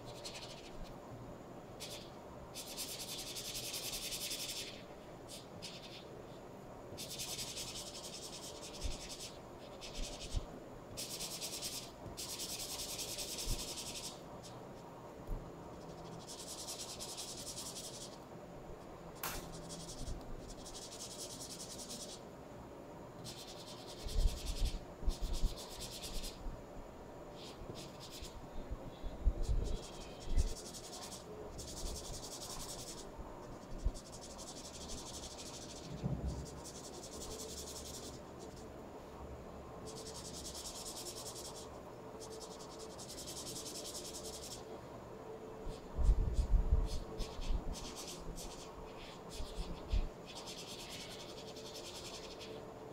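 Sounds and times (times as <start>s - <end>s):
marker scratching on paper: 0.0s - 0.9s, 1.8s - 6.1s, 7.0s - 14.6s, 15.7s - 18.2s, 19.2s - 22.2s, 23.2s - 26.4s, 27.3s - 28.4s, 29.4s - 38.6s, 39.9s - 44.6s, 45.7s - 52.6s.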